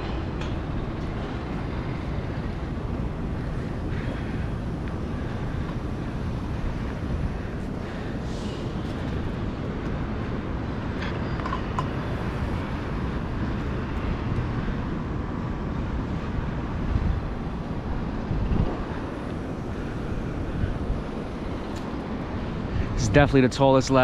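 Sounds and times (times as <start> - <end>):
low city rumble: 0.0 - 24.0
wind buffeting microphone: 0.0 - 24.0.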